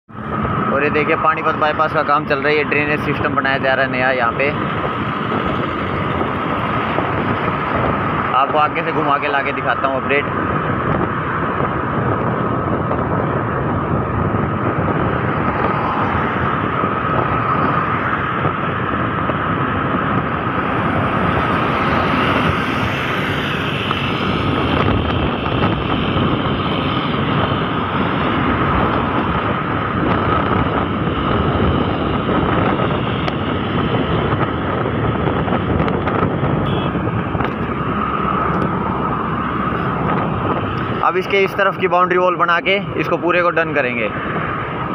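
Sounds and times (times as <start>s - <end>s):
scooter engine and tyre noise: 0.1s - 44.9s
wind rushing over microphone: 0.1s - 44.9s.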